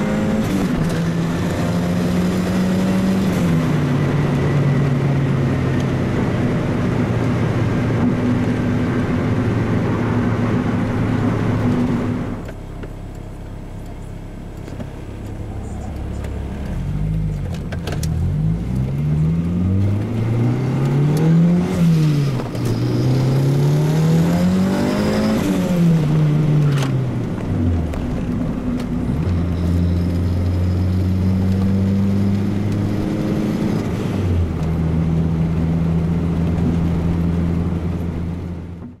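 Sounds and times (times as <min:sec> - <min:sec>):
turbocharged car engine accelerating: 0:00.0 - 0:39.0.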